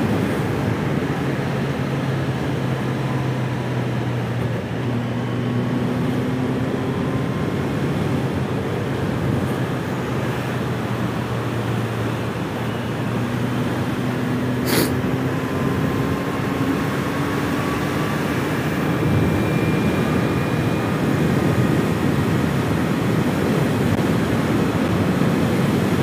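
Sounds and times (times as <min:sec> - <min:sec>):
motorcycle engine cruising: 0:00.0 - 0:26.0.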